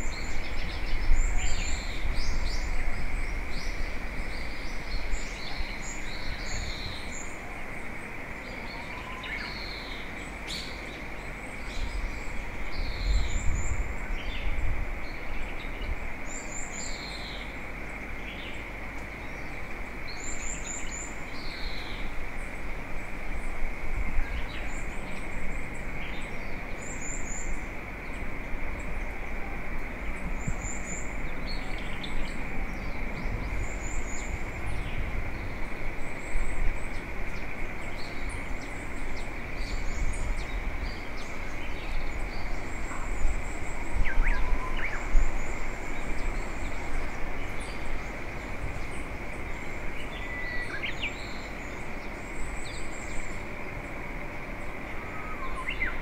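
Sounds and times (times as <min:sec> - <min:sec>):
steady outdoor hiss: 0:00.0 - 0:56.0
wild birds chirping: 0:00.0 - 0:56.0.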